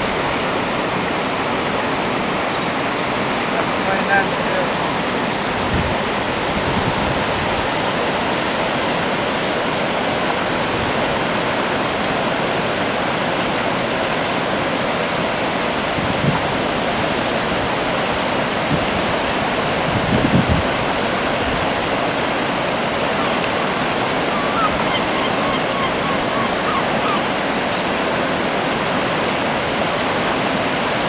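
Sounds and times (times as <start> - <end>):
river water rushing over rocks: 0.0 - 31.0.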